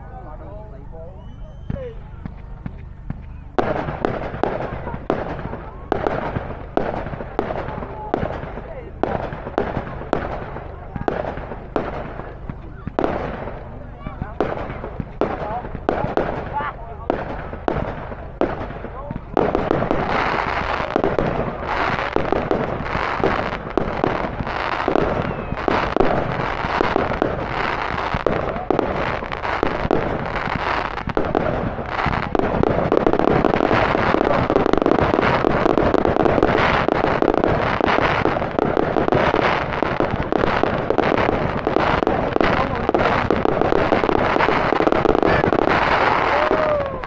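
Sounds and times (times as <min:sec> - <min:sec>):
fireworks bangs and crackle: 0:00.0 - 0:47.0.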